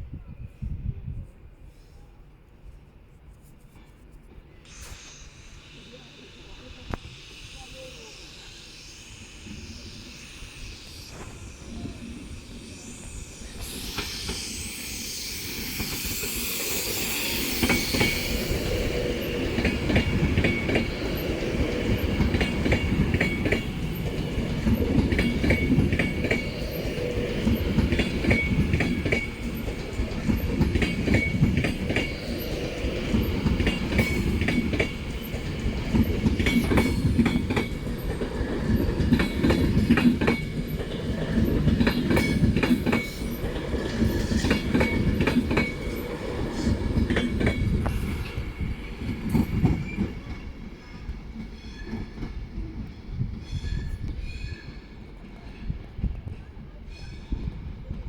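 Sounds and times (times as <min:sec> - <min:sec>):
train passing: 0:04.4 - 0:58.0.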